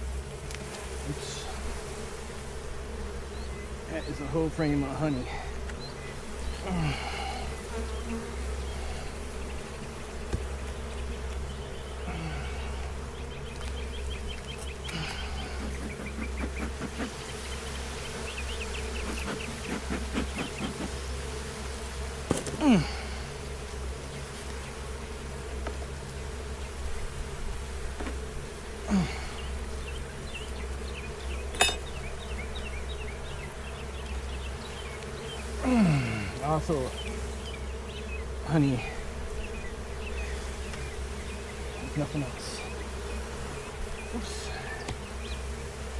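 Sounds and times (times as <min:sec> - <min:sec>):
bee flying past: 0:00.0 - 0:45.9
honeybees buzzing: 0:00.0 - 0:45.9.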